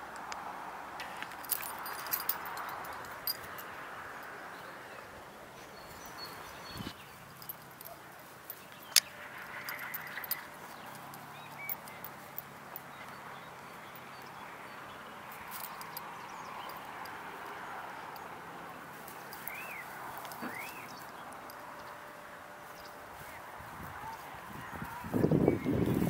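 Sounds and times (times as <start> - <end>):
soft outdoor hiss: 0.0 - 26.0.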